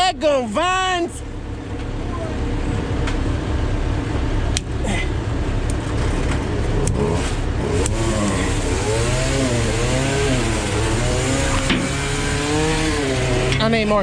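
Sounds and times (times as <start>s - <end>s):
heavy vehicle engine revving: 1.2s - 14.0s.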